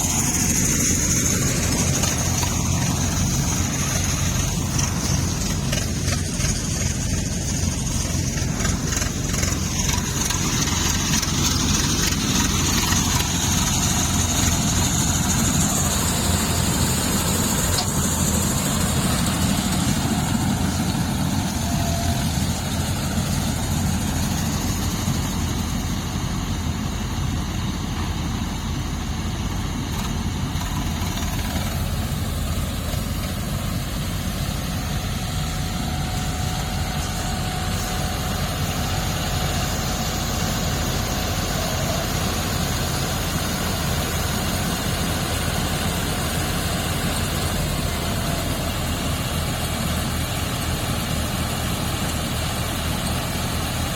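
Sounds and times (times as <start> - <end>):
harvester engine running: 0.0 - 53.9.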